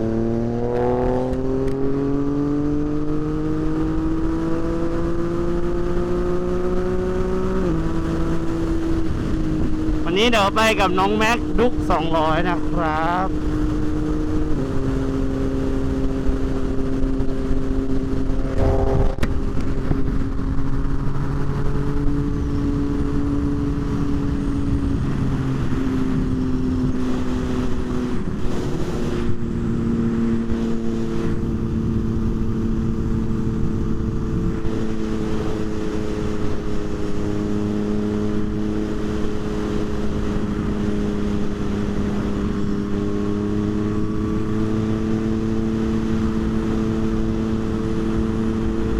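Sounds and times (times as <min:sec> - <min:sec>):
motorcycle engine cruising: 0:00.0 - 0:48.9
wind rushing over microphone: 0:00.0 - 0:48.9.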